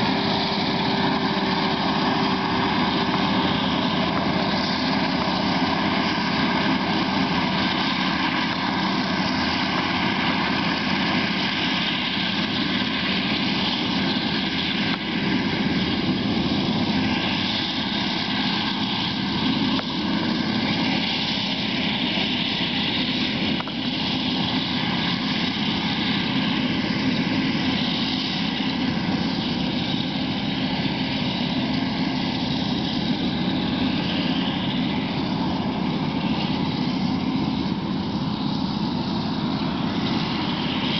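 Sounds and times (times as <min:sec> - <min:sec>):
forage harvester drone with whine: 0:00.0 - 0:40.9
tractor engine: 0:00.0 - 0:40.9.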